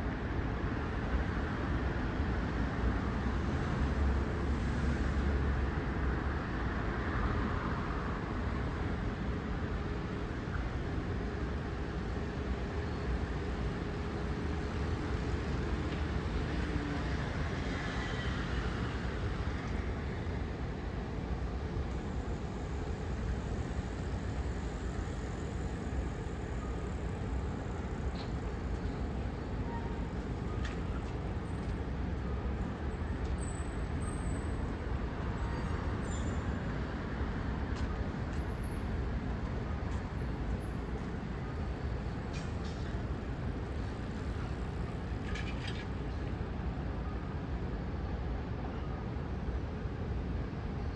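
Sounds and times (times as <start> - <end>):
city traffic rumble: 0.0 - 50.9.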